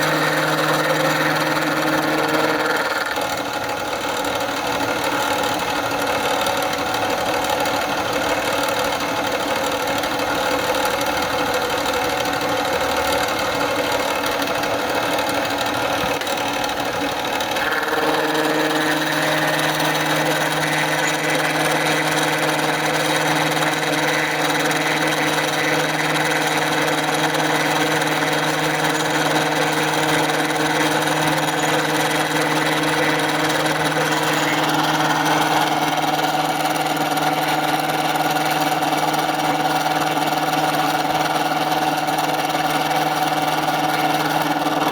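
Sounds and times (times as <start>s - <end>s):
machine tool running: 0.0s - 44.9s.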